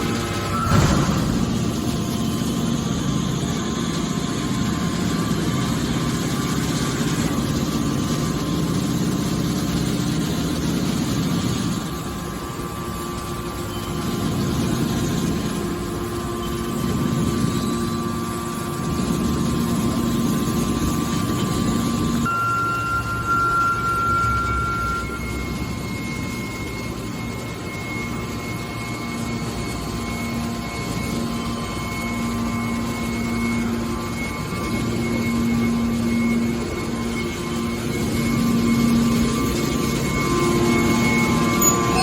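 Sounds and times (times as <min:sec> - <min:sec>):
hydraulic baler motor humming: 0:00.0 - 0:42.0.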